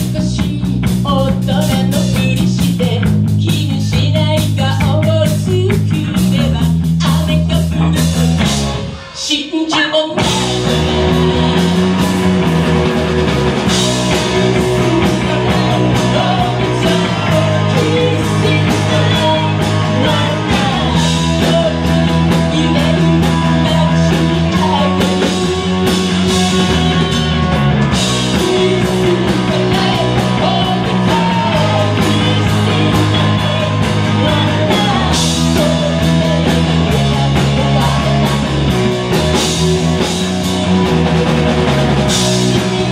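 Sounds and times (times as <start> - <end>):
lead singer singing: 0.0 - 12.4, 13.5 - 41.1
live rock band playing: 0.0 - 42.9.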